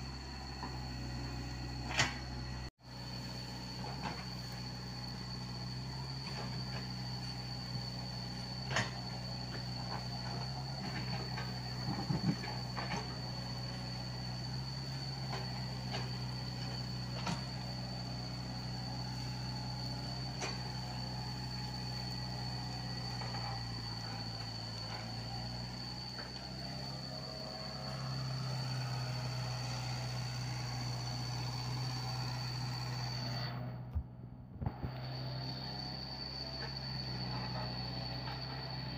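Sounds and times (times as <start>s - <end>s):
excavator diesel engine running: 0.0s - 38.9s
high hydraulic whine: 0.0s - 38.9s.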